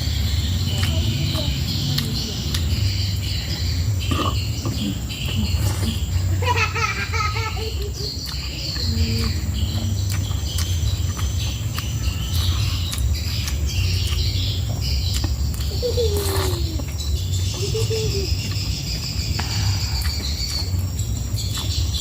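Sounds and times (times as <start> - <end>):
crickets chirping: 0.0 - 22.0
steady low hum: 0.0 - 22.0.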